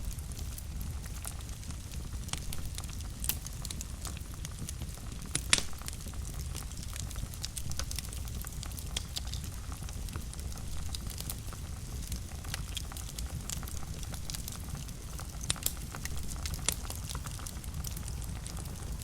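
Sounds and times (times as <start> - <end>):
fire crackles and pops: 0.0 - 19.0
fire rumbling: 0.0 - 19.0.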